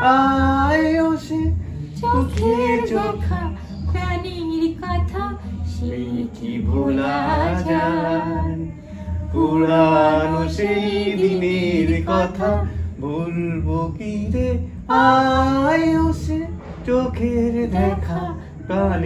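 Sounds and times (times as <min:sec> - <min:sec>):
woman singing unaccompanied: 0:00.0 - 0:12.8, 0:14.9 - 0:19.0.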